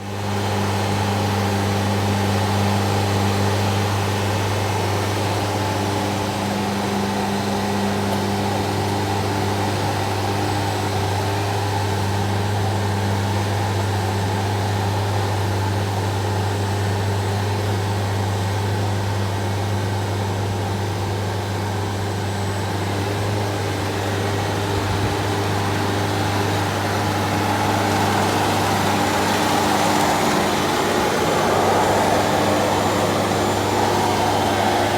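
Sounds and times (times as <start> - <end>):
floor grinding machine humming: 0.0 - 34.9.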